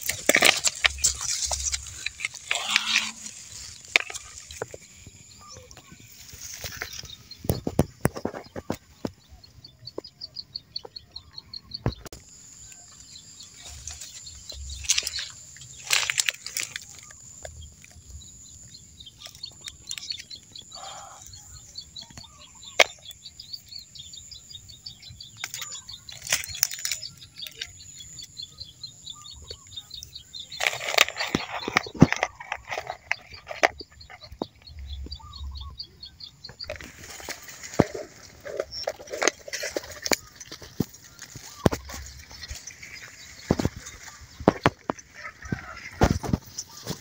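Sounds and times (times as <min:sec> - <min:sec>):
dry leaves and twigs crackling: 0:00.0 - 0:10.1, 0:10.8 - 0:47.0.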